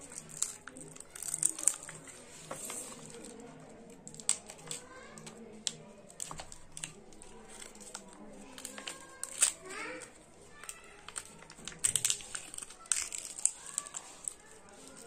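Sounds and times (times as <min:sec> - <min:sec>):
wrapper crinkling and crackling: 0:00.0 - 0:15.0.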